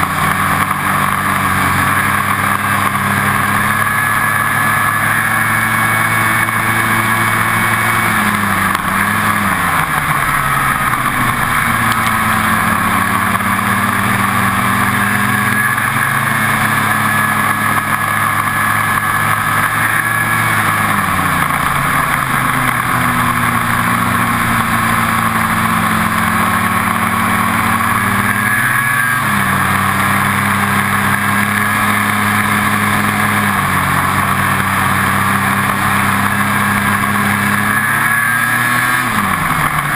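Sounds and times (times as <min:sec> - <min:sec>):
snowmobile engine running: 0:00.0 - 0:39.9
snowmobile track noise: 0:00.0 - 0:39.9.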